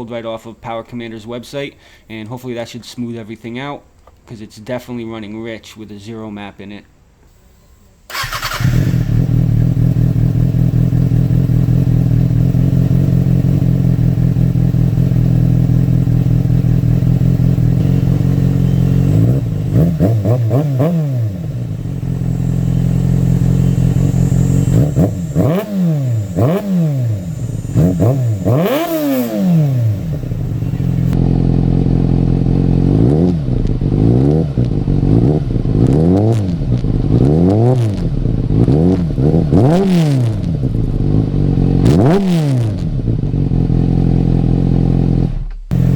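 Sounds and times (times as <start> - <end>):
motorcycle engine idling and revving: 8.1 - 45.9.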